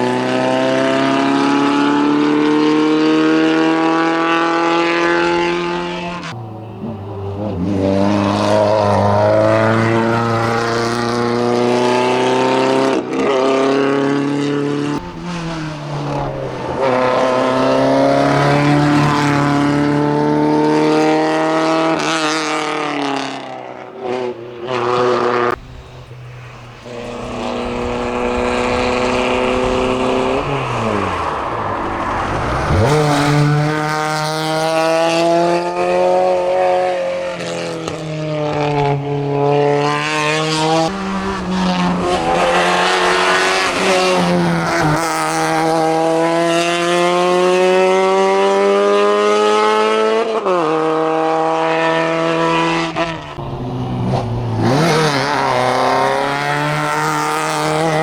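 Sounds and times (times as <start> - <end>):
racing car engines at full throttle: 0.0 - 58.0.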